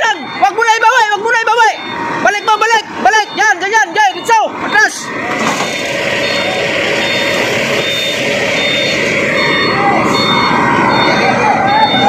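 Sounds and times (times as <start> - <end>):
heavy truck engine running: 0.0 - 12.0
reversing beeper: 0.0 - 12.0.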